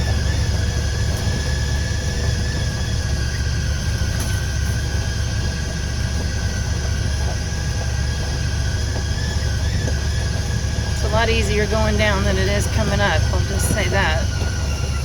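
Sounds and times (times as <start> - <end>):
faint steady whine: 0.0 - 15.0
vehicle engine and tyres rumbling: 0.0 - 15.0.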